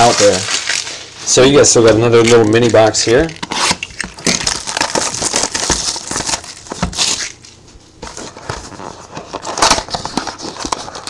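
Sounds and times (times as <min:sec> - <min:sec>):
cardboard box crinkling and rustling: 0:00.0 - 0:11.0
cardboard tearing: 0:00.0 - 0:11.0.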